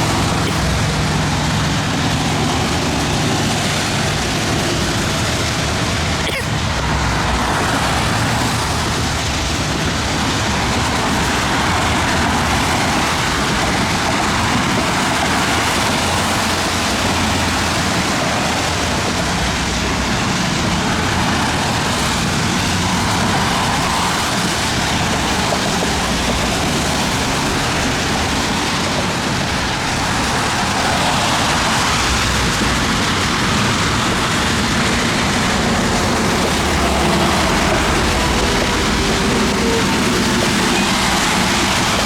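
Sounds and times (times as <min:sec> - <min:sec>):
gusty wind: 0:00.0 - 0:42.0
heavy rain pouring: 0:00.0 - 0:42.0.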